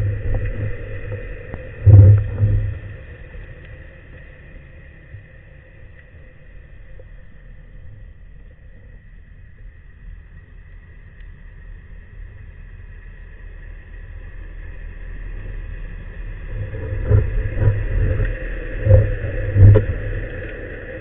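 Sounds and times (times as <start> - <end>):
low underwater rumble: 0.0 - 21.0.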